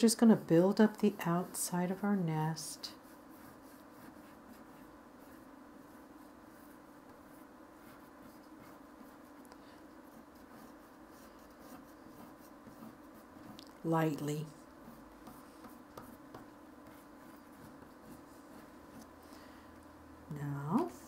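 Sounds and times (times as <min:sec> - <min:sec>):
oil pastel scratching on paper: 0:00.0 - 0:19.2
low steady hum: 0:00.0 - 0:21.0.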